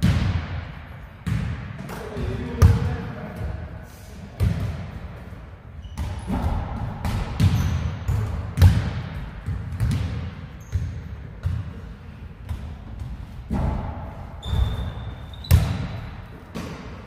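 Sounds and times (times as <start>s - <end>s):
basketball bouncing on court: 0.0s - 3.6s, 4.4s - 5.0s, 5.8s - 17.0s.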